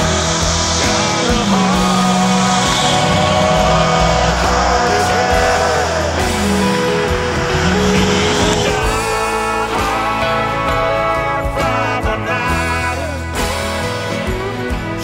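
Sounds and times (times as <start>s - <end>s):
low bass line: 0.0s - 13.3s
rock guitar sliding notes: 0.0s - 15.0s.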